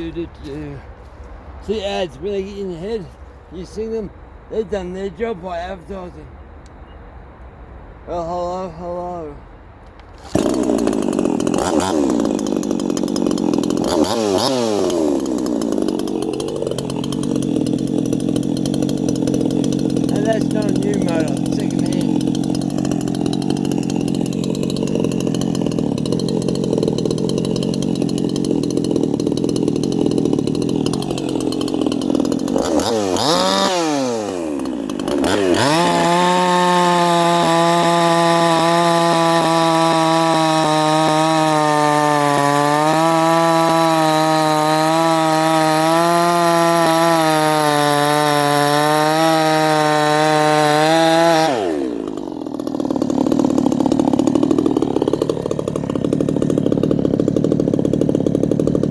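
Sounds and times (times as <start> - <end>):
chainsaw running and revving: 0.0 - 0.8, 10.2 - 58.9.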